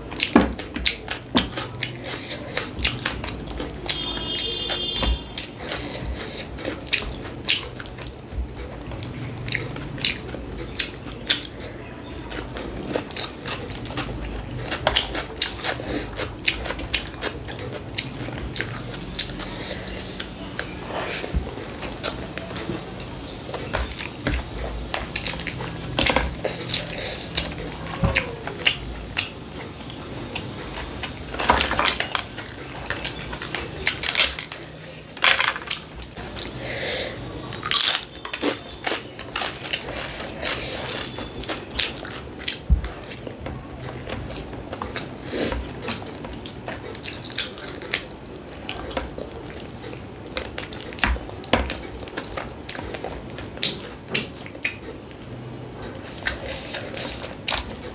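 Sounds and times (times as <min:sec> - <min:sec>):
crunching eating sounds: 0:00.0 - 0:57.9.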